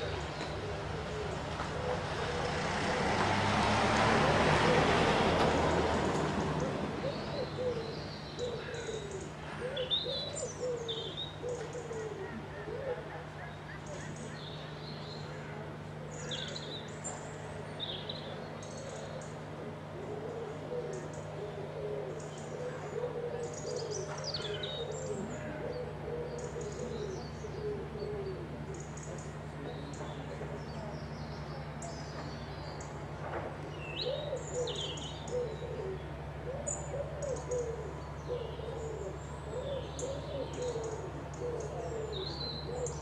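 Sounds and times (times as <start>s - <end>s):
songbirds chirping: 0.0s - 43.0s
lower arching bird calls: 6.2s - 43.0s.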